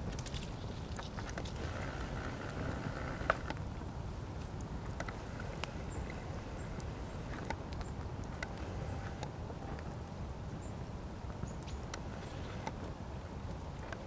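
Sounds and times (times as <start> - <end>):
low steady fire rumble: 0.0 - 14.0
wood fire crackling and popping: 0.0 - 14.0.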